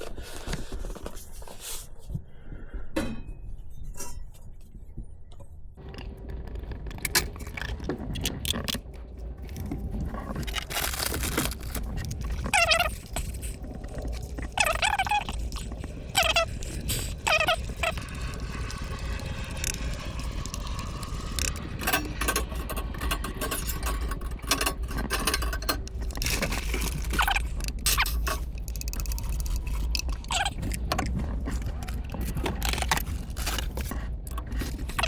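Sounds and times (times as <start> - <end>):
low rumble: 5.0 - 35.0
utensil scraping cookware: 5.8 - 35.0.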